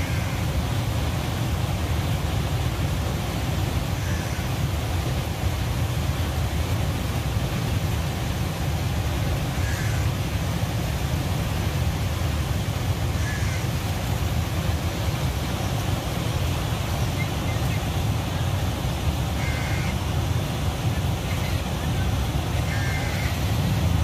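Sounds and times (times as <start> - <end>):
turbulent river water rushing: 0.0 - 24.0.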